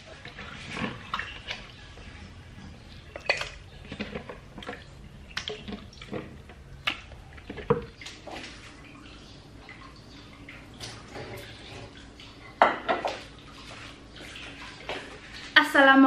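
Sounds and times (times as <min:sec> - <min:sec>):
water sloshing and dripping: 0:00.0 - 0:16.0.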